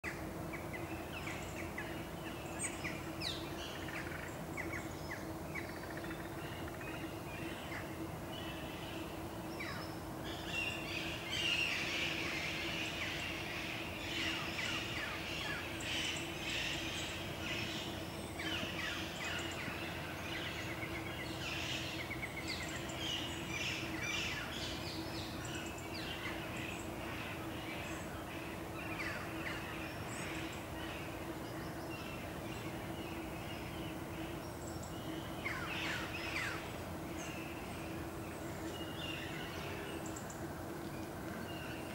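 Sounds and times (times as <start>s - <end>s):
steady low hum: 0.0s - 41.9s
birds chirping: 0.5s - 41.9s.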